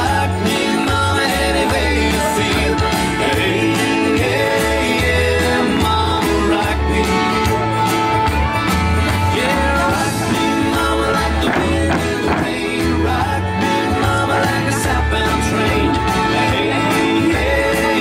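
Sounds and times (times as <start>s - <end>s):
person singing: 0.0s - 8.3s, 9.0s - 18.0s
country music with steady beat: 0.0s - 18.0s
guitar: 0.0s - 18.0s.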